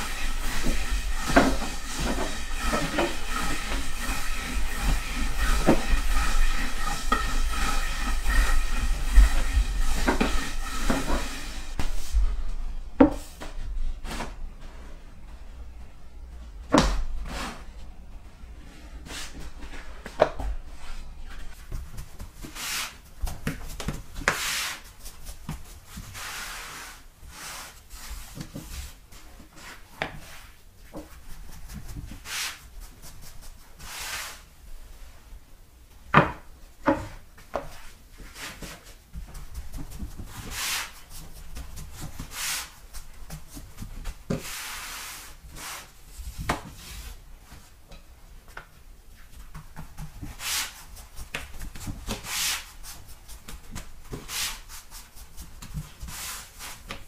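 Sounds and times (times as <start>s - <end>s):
rolling pin swishing over dough: 0.0s - 14.9s, 20.7s - 35.3s, 36.9s - 57.0s.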